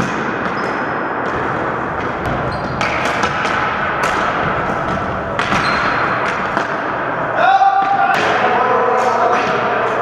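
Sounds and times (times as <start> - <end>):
background din in hall: 0.0 - 10.0
hockey sticks and ball clacking: 0.0 - 10.0.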